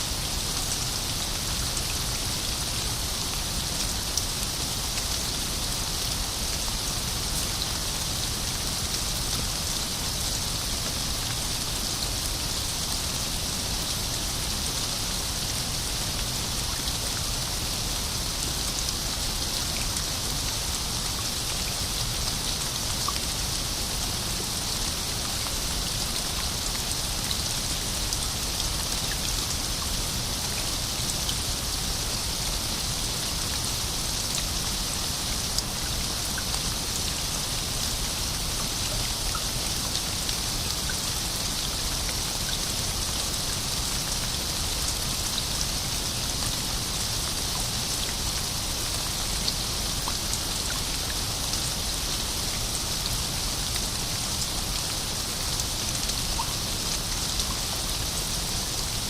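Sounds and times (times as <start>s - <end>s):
rain hissing on a surface: 0.0s - 59.0s.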